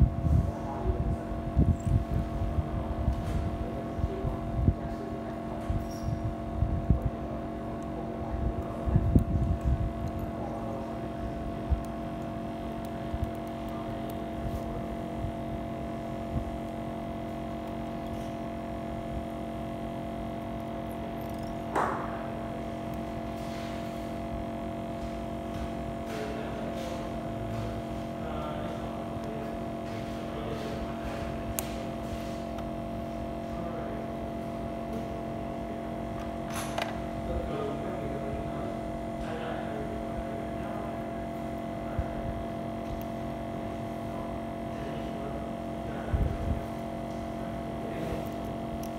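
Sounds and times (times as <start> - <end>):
electrical equipment hum: 0.0 - 48.9.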